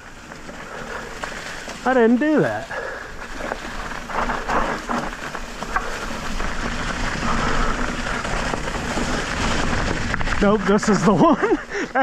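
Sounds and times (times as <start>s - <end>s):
bike tyres rolling over dry leaves: 0.0s - 12.0s.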